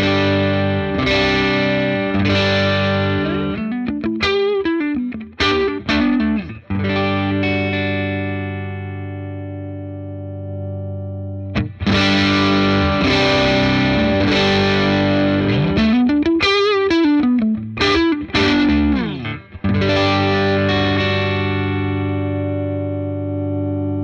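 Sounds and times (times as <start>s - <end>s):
overdriven electric guitar: 0.0s - 24.0s.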